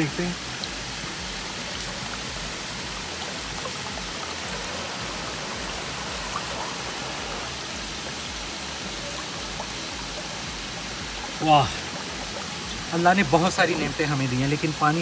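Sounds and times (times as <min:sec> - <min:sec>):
water running over rocks: 0:00.0 - 0:15.0.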